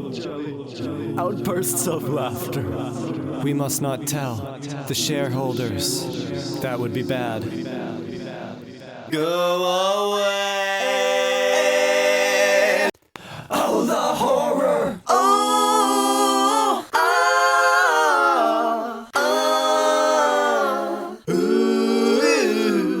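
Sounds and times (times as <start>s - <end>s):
a cappella voices singing chords: 0.0s - 23.0s.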